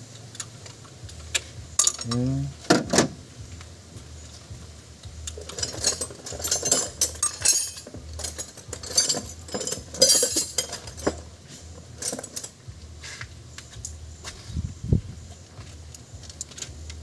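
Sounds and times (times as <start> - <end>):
steady low hum: 0.0 - 17.0
hand tools clinking and scraping: 0.2 - 3.2, 4.1 - 14.6, 15.2 - 17.0.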